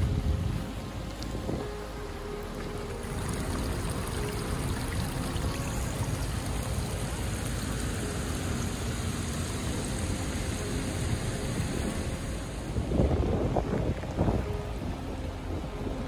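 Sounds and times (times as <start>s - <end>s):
rain falling: 0.0s - 16.0s
storm water rushing: 0.0s - 16.0s.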